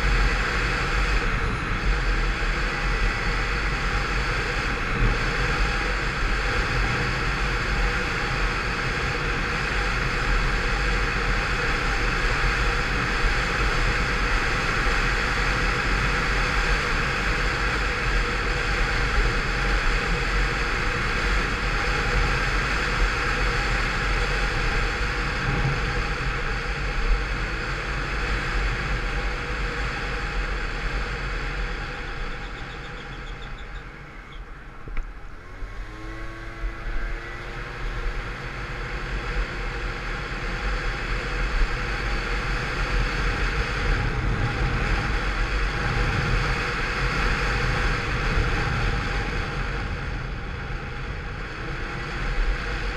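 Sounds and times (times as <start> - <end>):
scooter engine running: 0.0 - 52.9
wind and road noise: 0.0 - 52.9.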